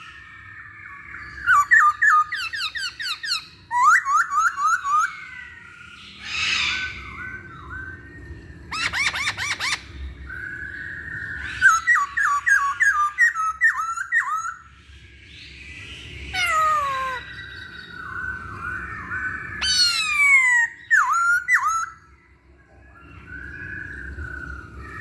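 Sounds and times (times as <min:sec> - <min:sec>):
bird singing whistled song: 0:00.0 - 0:25.0.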